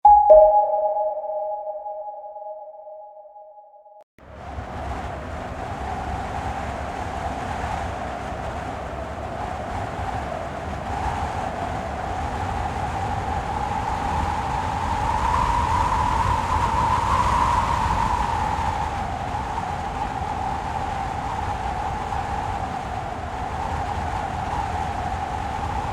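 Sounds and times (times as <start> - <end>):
heavy wind gusting: 4.3 - 25.9.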